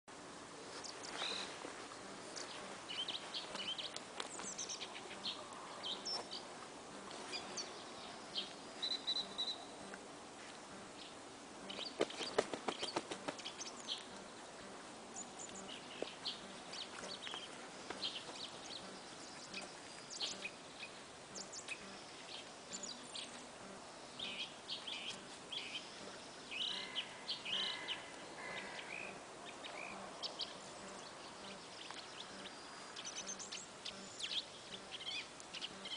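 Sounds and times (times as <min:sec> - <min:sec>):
small birds chirping: 0:00.7 - 0:10.0, 0:15.2 - 0:35.9.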